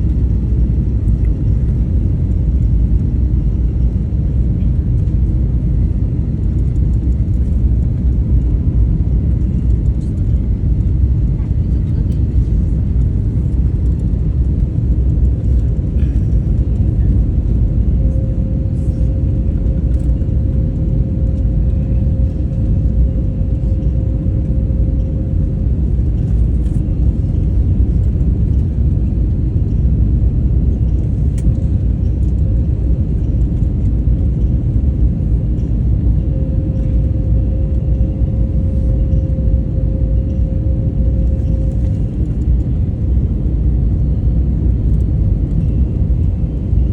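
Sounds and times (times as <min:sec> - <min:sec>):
engine and airflow rumble: 0:00.0 - 0:46.9
faint steady hum: 0:00.0 - 0:46.9.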